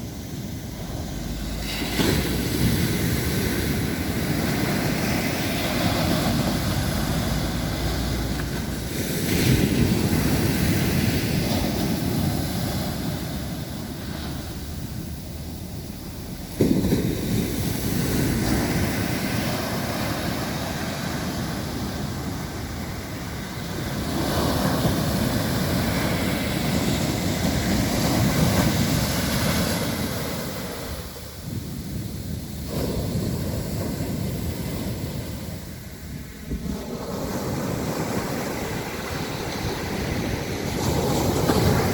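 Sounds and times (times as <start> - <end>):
waves breaking on beach: 0.0 - 41.9
wind buffeting microphone: 0.0 - 41.9.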